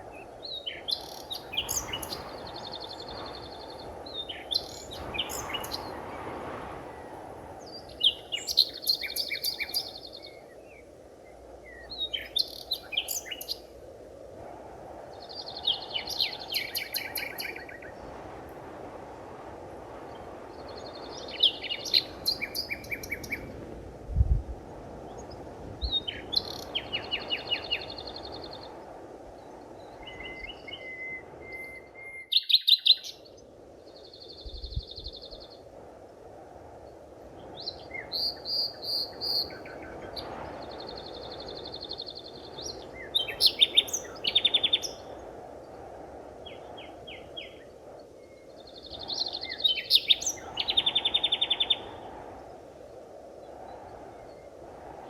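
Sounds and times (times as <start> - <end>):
forest birds chirping and trilling: 0.0 - 13.8, 15.1 - 18.1, 20.1 - 23.6, 25.0 - 35.7, 37.4 - 45.2, 46.4 - 52.5
steady background hiss: 0.0 - 55.0.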